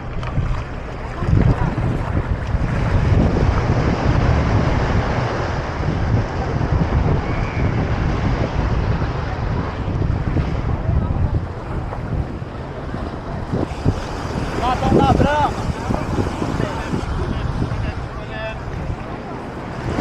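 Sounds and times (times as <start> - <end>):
ocean surf: 0.0 - 20.0
wind buffeting microphone: 0.0 - 20.0.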